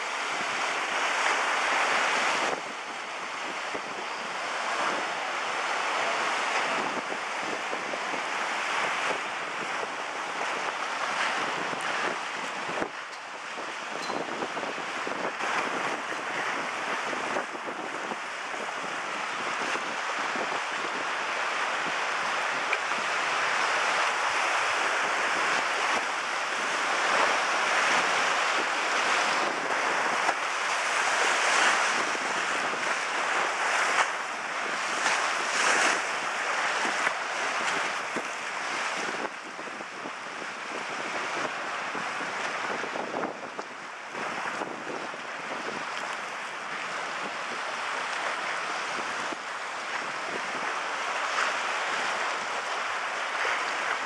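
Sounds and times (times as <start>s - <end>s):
propeller wash churning water: 0.0s - 54.0s.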